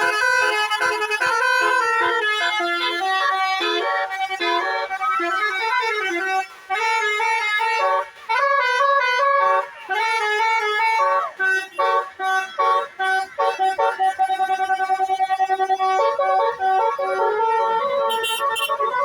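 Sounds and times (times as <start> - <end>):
bus musical horn: 0.0 - 19.0.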